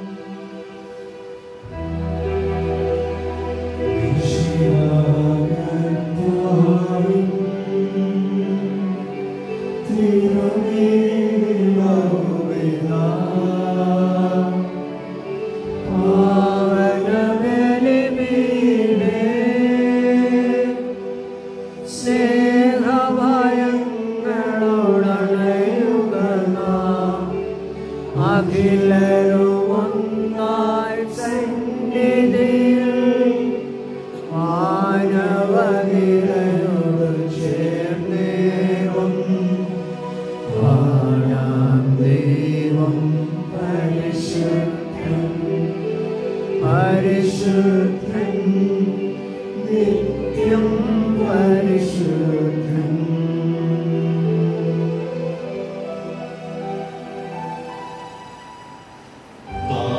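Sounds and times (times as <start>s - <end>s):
sung liturgical chant: 0.0s - 57.4s, 59.3s - 59.9s.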